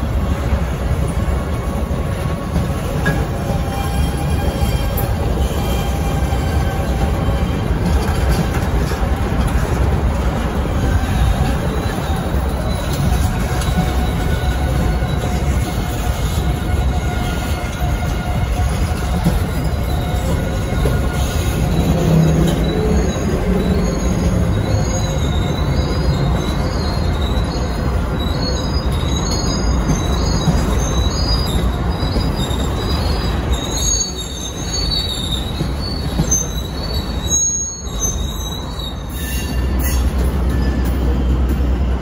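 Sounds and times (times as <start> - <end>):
freight train rumbling on rails: 0.0 - 42.0
high wheel squeals: 1.0 - 42.0.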